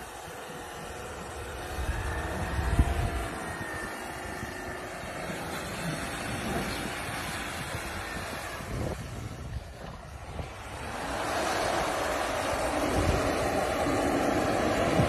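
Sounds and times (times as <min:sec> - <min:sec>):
suv engine whining under load: 0:00.0 - 0:15.0.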